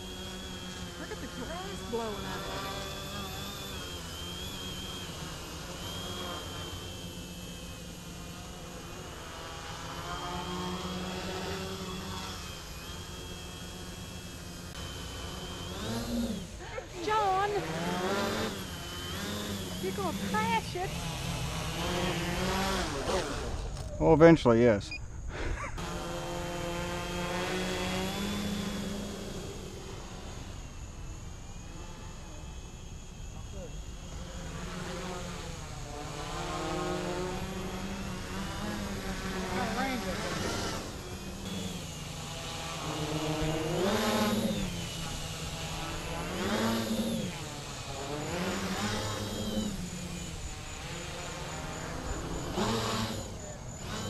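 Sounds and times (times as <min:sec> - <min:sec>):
quadcopter motors buzzing: 0:00.0 - 0:54.0.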